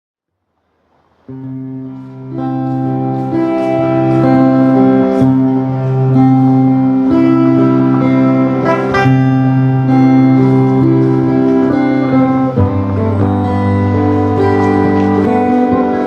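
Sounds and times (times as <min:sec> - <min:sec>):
guitar playing: 0:01.2 - 0:16.0
sustained chords: 0:01.3 - 0:16.0.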